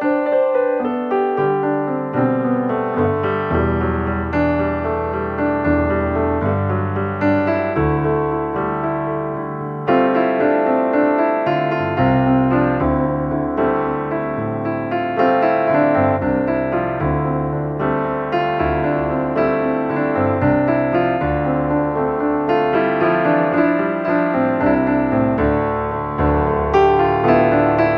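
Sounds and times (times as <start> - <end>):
gentle piano piece: 0.0 - 27.9.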